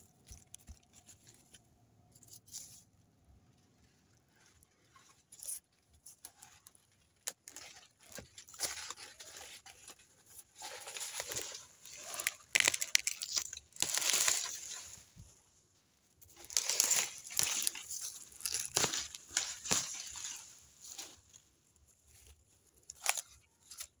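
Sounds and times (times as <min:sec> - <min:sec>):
rustling of dry leaves and soil: 0:00.0 - 0:24.0.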